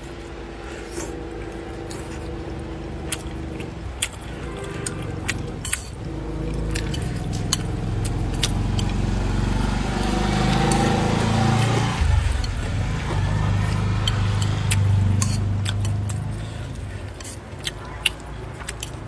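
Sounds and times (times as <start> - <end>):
chewing: 0.0 - 19.0
steady low rumble: 0.0 - 19.0.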